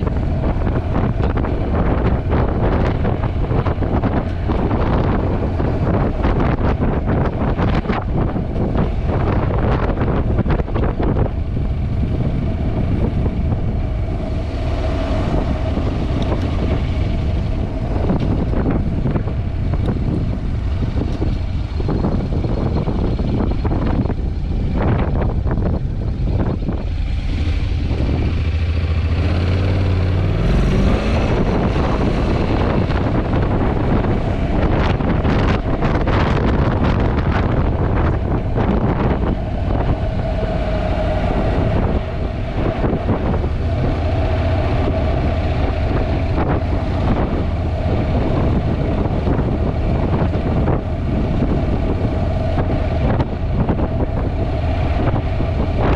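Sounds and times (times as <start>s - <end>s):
motorcycle engine accelerating: 0.0s - 55.9s
wind buffeting microphone: 0.0s - 55.9s.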